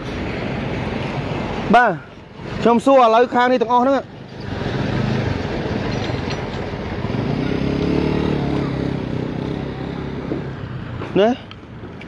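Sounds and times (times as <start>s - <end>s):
road noise: 0.0s - 12.0s
truck diesel engine driving: 0.0s - 12.0s.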